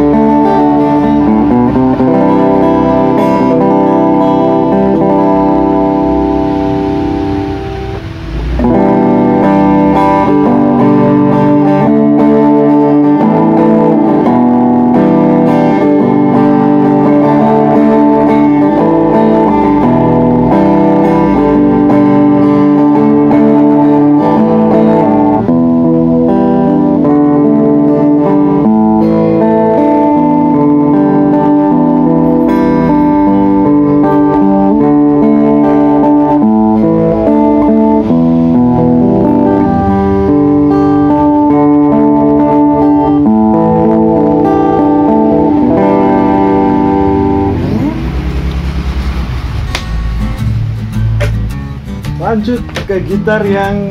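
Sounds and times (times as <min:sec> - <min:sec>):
amplified acoustic guitar playing: 0:00.0 - 0:53.9.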